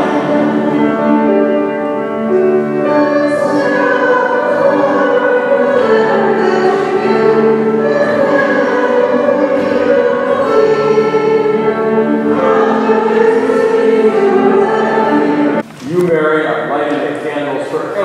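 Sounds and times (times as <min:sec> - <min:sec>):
choir singing long notes: 0:00.0 - 0:15.6.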